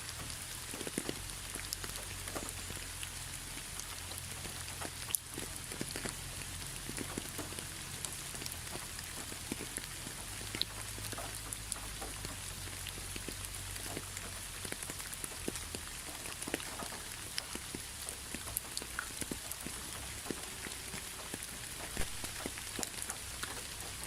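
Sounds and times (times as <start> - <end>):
hiss of rain: 0.0 - 24.0
raindrops tapping: 0.0 - 24.0.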